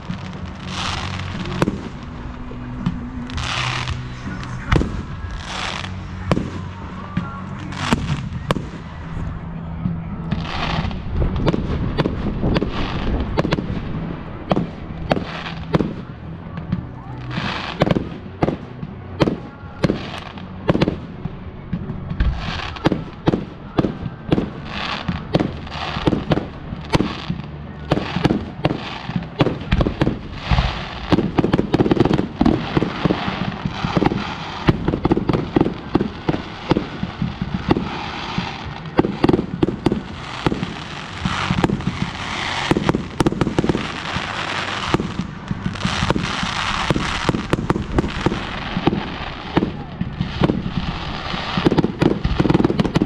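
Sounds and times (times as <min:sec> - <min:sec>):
fireworks bangs: 0:00.0 - 0:53.0
fireworks crackling hiss: 0:00.0 - 0:53.0.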